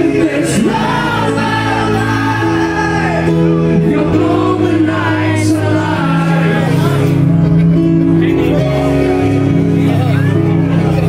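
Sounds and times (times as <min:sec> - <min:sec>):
hard rock band playing live: 0:00.0 - 0:11.0.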